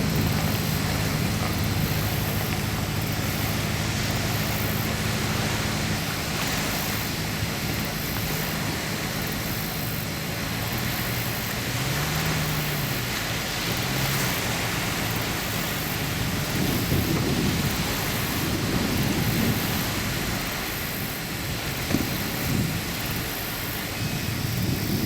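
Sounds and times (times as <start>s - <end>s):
constant rushing noise: 0.0s - 25.0s
large diesel engine running: 0.0s - 25.0s.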